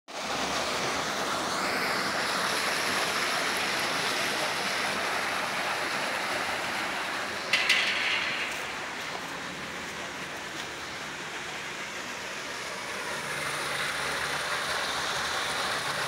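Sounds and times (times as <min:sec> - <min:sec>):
water rushing down a spillway: 0:00.1 - 0:16.0.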